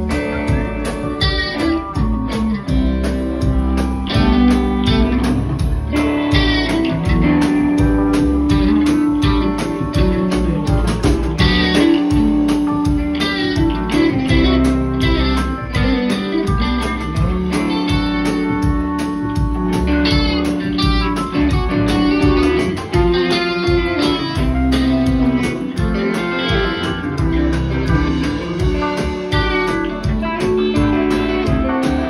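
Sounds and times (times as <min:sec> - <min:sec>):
drums: 0:00.0 - 0:32.0
electric guitars: 0:00.0 - 0:32.0.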